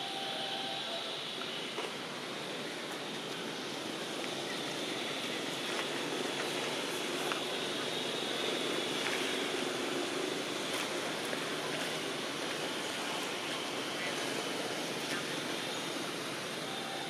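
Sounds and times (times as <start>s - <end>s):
even hiss: 0.0s - 17.0s
faint high-pitched whine: 0.0s - 17.0s.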